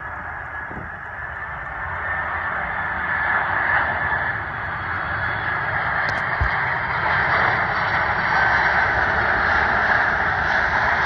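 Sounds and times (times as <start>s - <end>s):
jet engine roar with whine: 0.0s - 11.0s.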